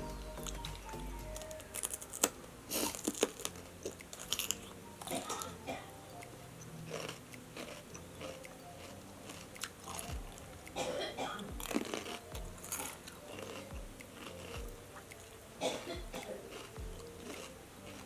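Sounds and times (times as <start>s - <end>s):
crunching and chewing fried chicken: 0.4s - 18.0s.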